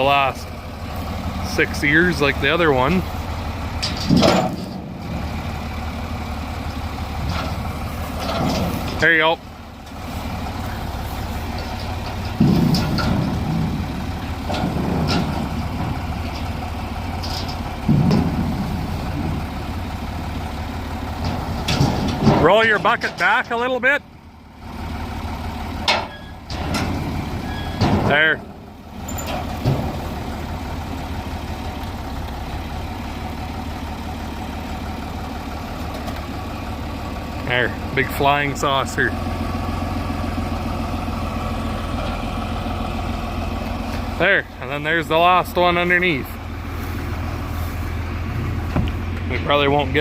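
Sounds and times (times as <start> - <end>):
heavy equipment engine running: 0.0 - 50.0.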